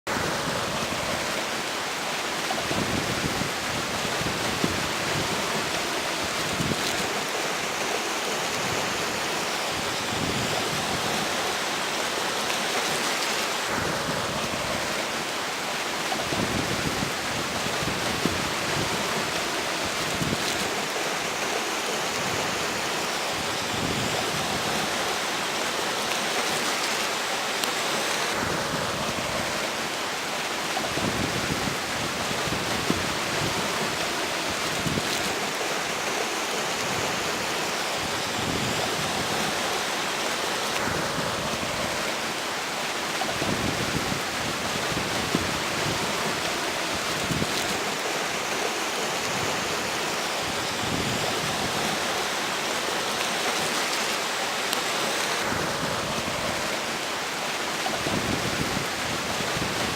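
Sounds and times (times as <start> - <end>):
river water rushing: 0.1 - 59.9
wind gusting: 0.1 - 59.9.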